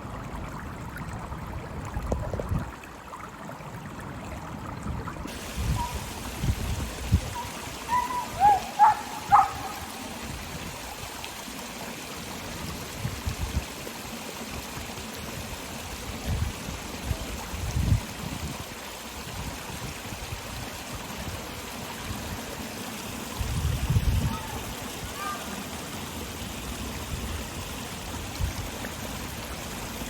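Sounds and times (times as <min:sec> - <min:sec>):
water running and splashing: 0:02.1 - 0:30.0.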